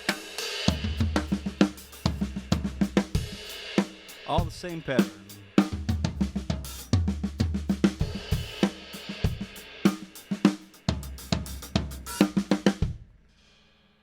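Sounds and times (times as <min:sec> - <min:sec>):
fast drum fill: 0:00.0 - 0:13.1.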